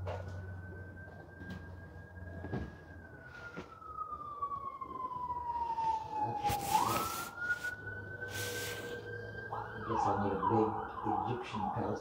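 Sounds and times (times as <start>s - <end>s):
siren-like whistling tone: 0.0s - 12.0s.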